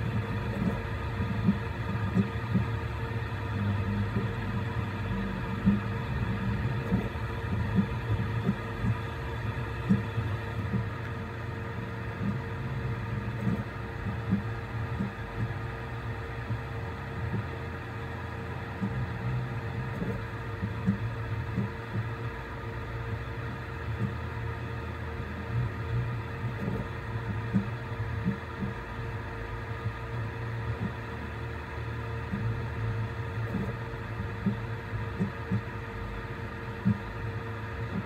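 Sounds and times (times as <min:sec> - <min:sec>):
printer fans humming: 0:00.0 - 0:38.0.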